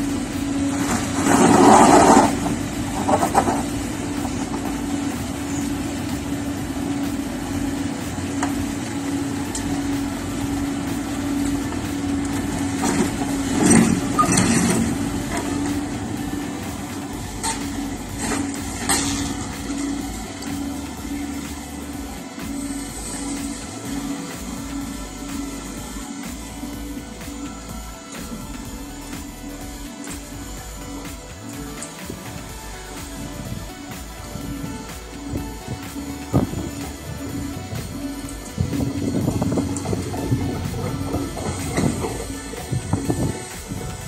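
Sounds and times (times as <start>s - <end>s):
excavator diesel engine humming: 0.0s - 44.0s.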